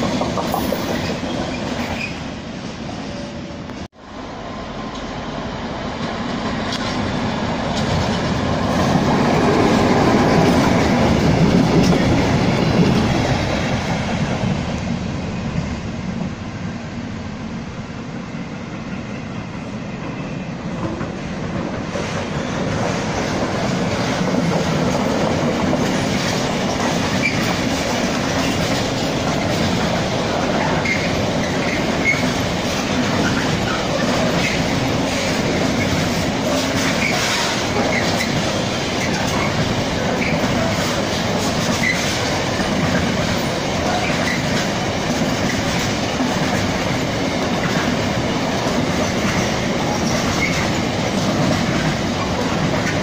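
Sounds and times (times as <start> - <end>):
train wheels clattering over rails: 0.0 - 2.2, 6.0 - 14.8, 20.7 - 53.0.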